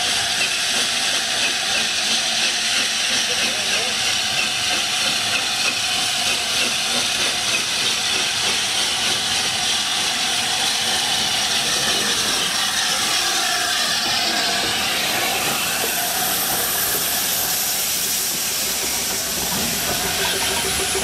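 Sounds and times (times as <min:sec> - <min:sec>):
loud hiss of escaping steam: 0:00.0 - 0:21.0
steam locomotive moving slowly: 0:00.0 - 0:21.0.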